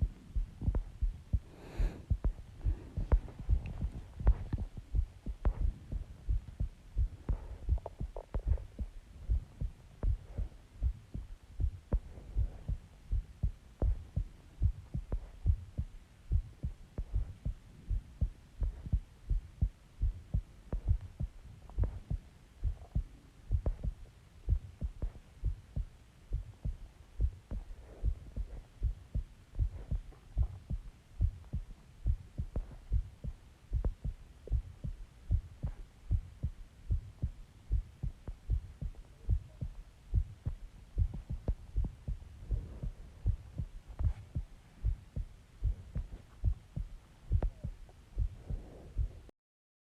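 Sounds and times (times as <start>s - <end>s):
heartbeat thumps: 0.0s - 49.3s.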